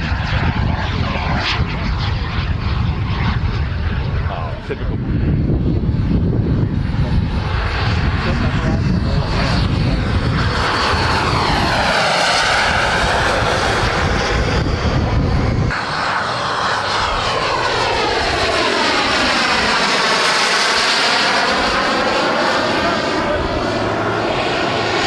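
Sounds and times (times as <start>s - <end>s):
model jet whine passing: 0.0s - 25.0s.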